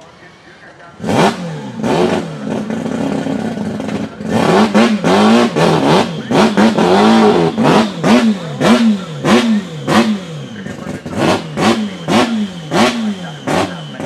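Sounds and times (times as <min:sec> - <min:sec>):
rotary engine revving: 0:00.8 - 0:14.0.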